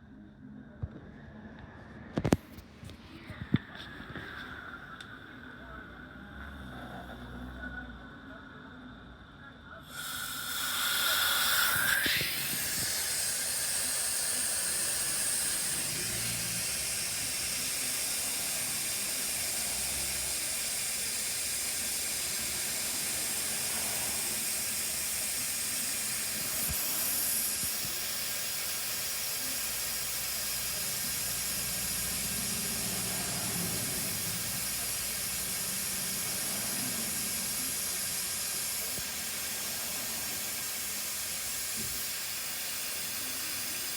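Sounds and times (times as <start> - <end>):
compressed air hissing: 2.2 - 8.2, 9.8 - 43.9.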